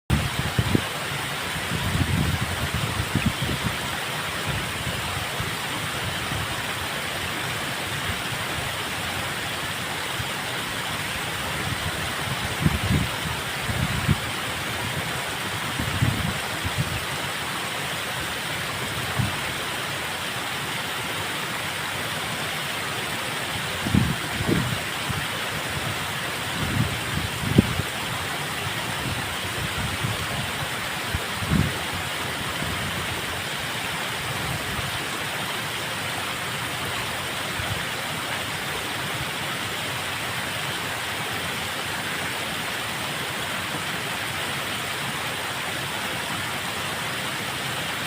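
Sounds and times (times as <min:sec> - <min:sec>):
water rushing: 0:00.1 - 0:48.0.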